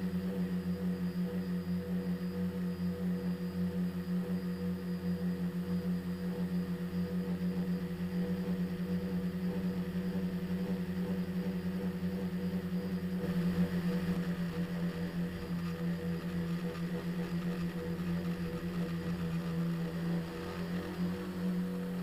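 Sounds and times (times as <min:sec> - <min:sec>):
drone motors and propellers humming: 0:00.0 - 0:22.0.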